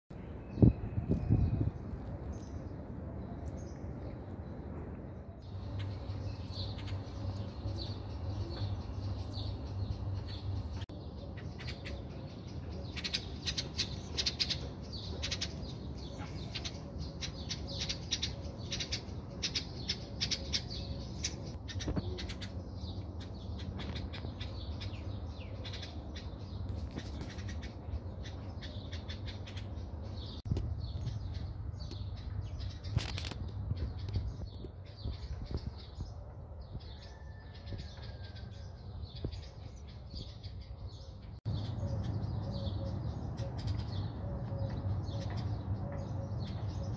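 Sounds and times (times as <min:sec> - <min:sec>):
small birds chirping: 0:05.4 - 0:46.9.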